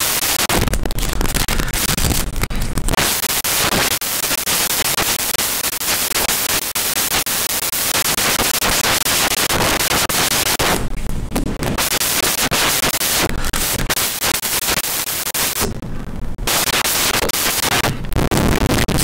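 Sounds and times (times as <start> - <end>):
loud crackling static: 0.0 - 19.0.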